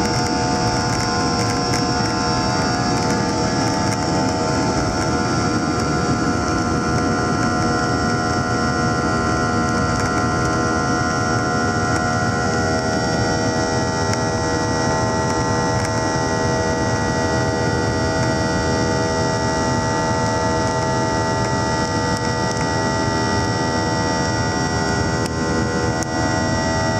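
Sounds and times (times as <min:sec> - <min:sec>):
jet engines at takeoff thrust: 0:00.0 - 0:26.9.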